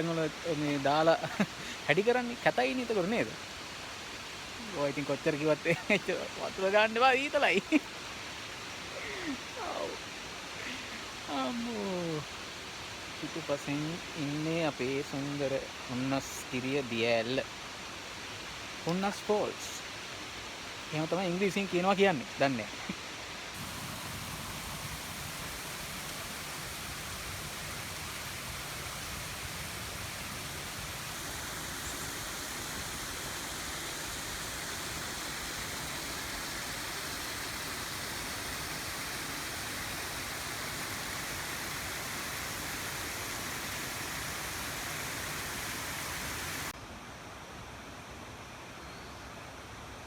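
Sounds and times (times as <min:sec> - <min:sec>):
waterfall rushing: 0:00.0 - 0:46.8.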